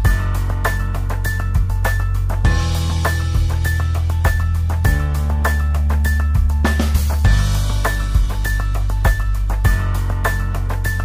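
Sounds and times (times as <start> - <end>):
background music: 0.0 - 11.0
steady beat: 0.0 - 11.0
sustained bass line: 0.0 - 11.0.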